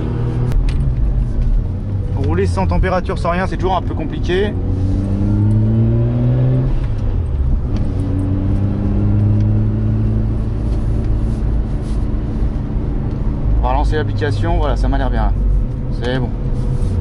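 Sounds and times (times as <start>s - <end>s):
rotary engine accelerating: 0.0s - 17.0s.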